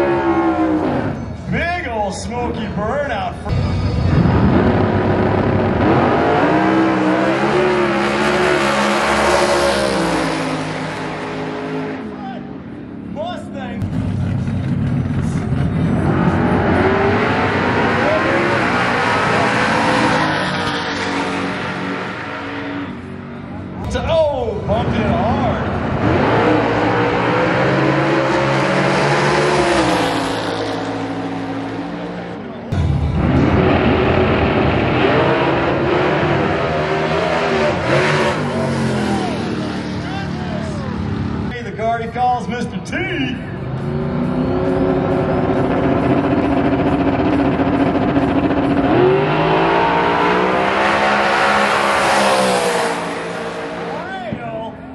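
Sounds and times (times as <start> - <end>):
drag cars accelerating: 0.0 - 54.9.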